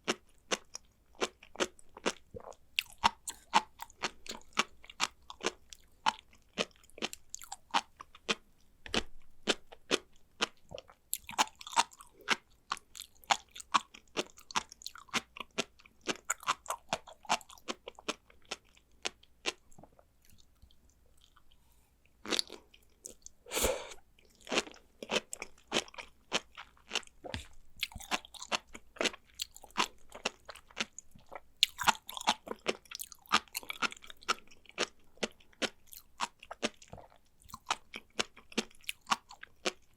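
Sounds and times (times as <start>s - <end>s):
chewing crunchy seaweed: 0.0s - 8.4s, 9.0s - 20.5s, 22.2s - 39.9s.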